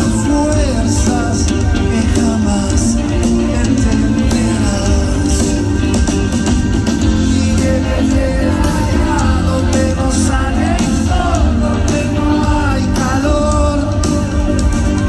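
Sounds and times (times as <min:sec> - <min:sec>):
person singing: 0:00.0 - 0:05.8, 0:07.0 - 0:15.0
live rock music: 0:00.0 - 0:15.0.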